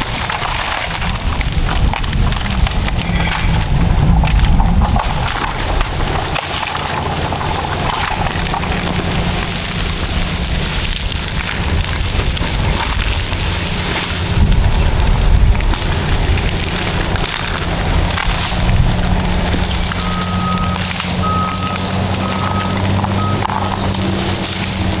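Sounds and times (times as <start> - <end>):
brush and timber snapping: 0.0 - 25.0
bulldozer diesel engines droning: 0.0 - 25.0.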